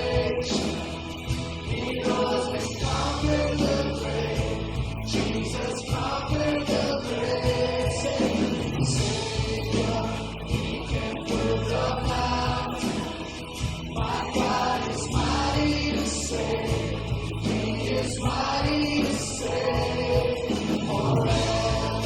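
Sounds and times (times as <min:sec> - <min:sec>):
bass notes: 0:00.0 - 0:22.0
group of voices singing: 0:00.0 - 0:22.0.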